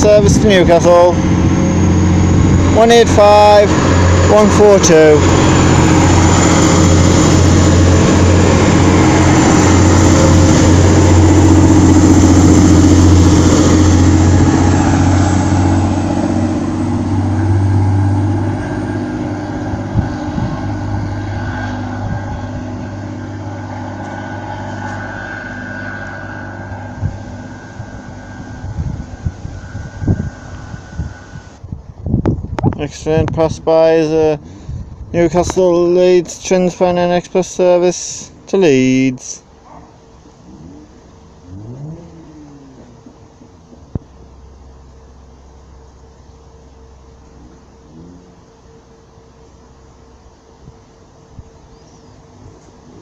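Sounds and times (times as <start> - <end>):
train diesel engines humming: 0.0 - 31.7, 32.9 - 53.0.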